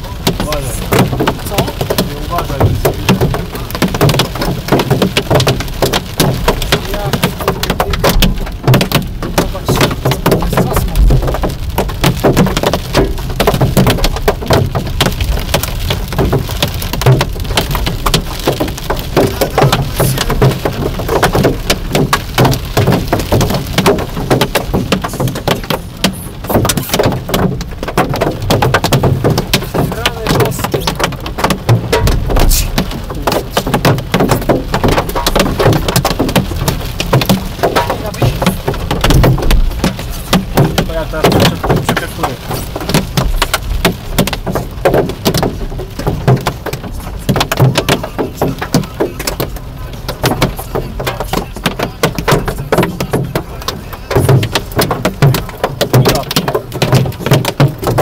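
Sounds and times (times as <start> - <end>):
heavy rain drumming on car roof: 0.0 - 58.0.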